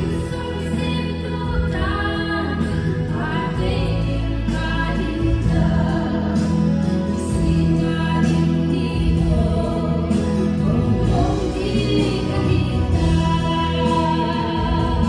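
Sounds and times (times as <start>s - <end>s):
amplified instrumental accompaniment: 0.0s - 15.0s.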